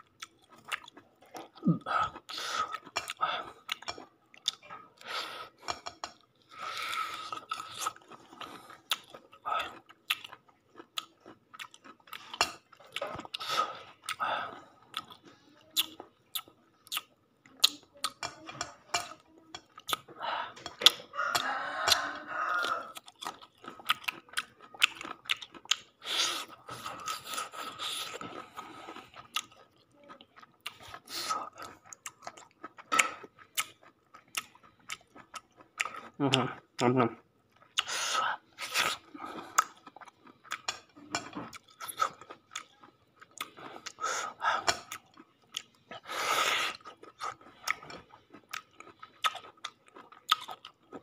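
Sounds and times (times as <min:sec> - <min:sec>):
people chewing and biting food: 0:00.0 - 0:51.0.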